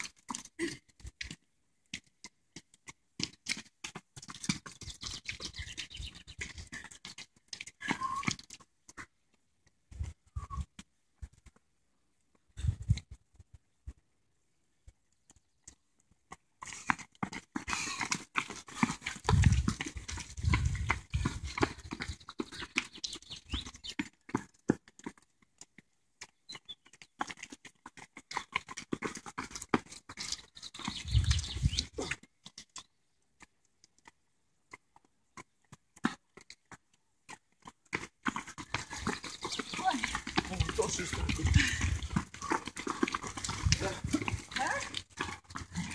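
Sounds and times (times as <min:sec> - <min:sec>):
running footsteps on brick: 0:00.0 - 0:13.6, 0:14.8 - 0:45.9.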